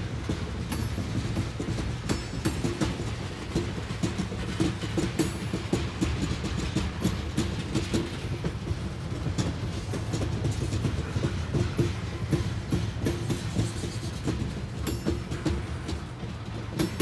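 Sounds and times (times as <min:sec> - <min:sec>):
train low rumble: 0:00.0 - 0:17.0
wheels clacking over rail joints: 0:00.0 - 0:17.0.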